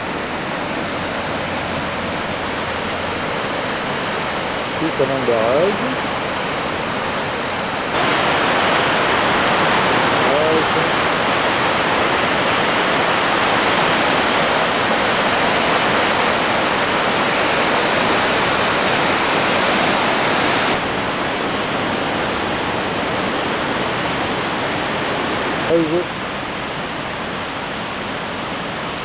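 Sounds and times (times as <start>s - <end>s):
river rushing through gorge: 0.0s - 29.0s.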